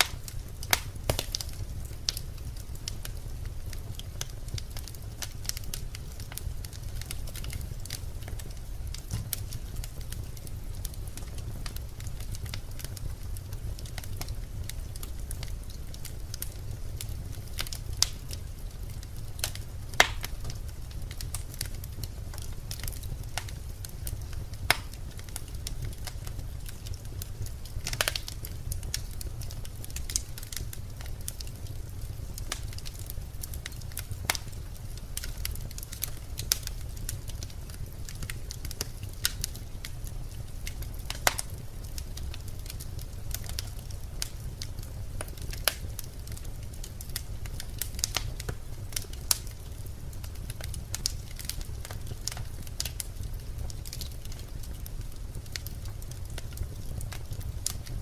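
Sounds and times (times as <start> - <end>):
logs crackling in a fireplace: 0.0 - 58.0
loud fire snaps: 0.0 - 58.0
low rumble of flames: 0.0 - 58.0.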